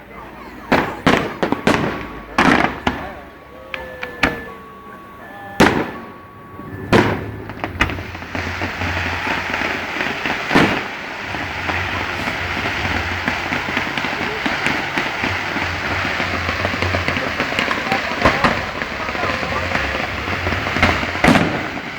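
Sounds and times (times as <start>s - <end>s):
fireworks bangs: 0.0s - 21.9s
fireworks crackling: 0.0s - 21.9s
low rumble: 1.6s - 21.9s.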